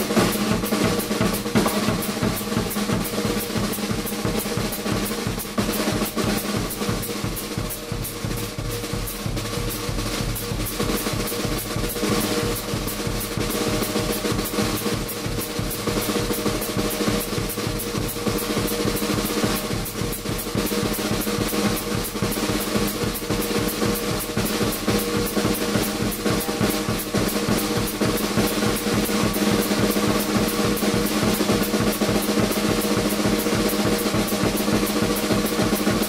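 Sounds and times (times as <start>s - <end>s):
bass drum: 0.0s - 36.0s
snare drum roll: 0.0s - 36.0s.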